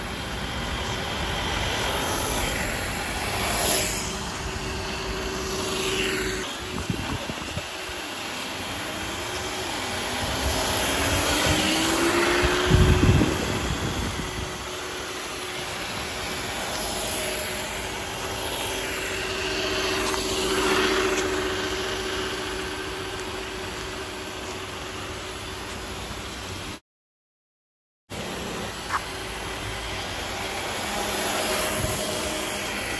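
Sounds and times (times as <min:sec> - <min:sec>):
electric motor whining: 0:00.0 - 0:26.4, 0:28.2 - 0:32.9.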